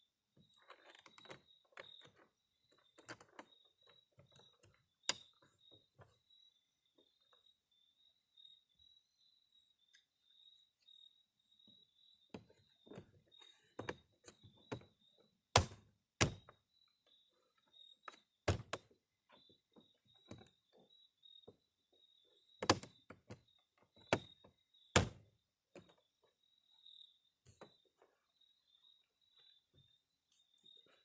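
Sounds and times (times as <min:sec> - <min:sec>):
faint insect chirp: 0:00.0 - 0:31.0.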